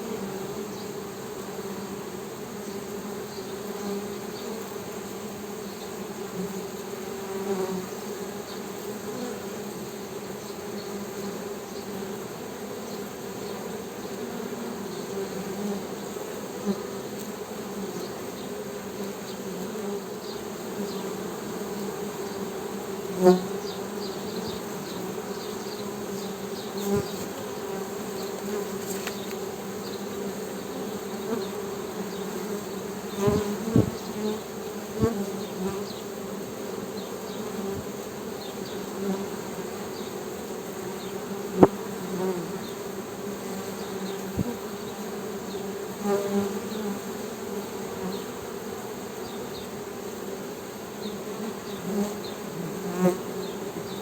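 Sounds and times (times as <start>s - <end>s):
honey bees humming: 0.0s - 54.0s.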